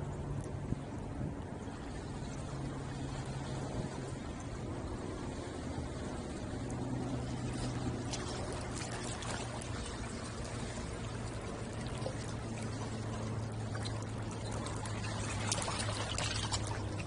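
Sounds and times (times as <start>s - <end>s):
steady low hum: 0.0s - 17.0s
water lapping and splashing: 0.0s - 17.0s.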